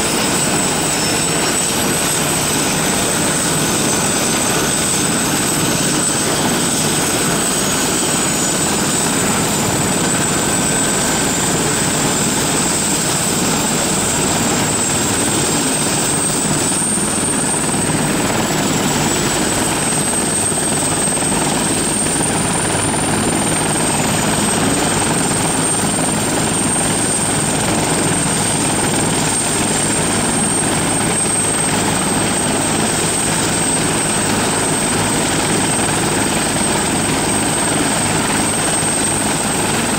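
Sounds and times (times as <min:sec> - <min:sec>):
helicopter rotor and turbine running: 0:00.0 - 0:39.9
high turbine whine: 0:00.0 - 0:39.9.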